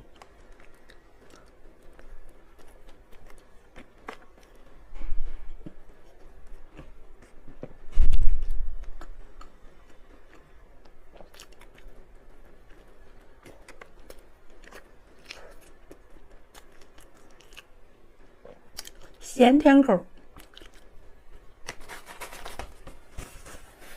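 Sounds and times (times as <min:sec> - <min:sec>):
person chewing bread: 0:00.0 - 0:04.9, 0:05.5 - 0:19.2, 0:20.1 - 0:23.6.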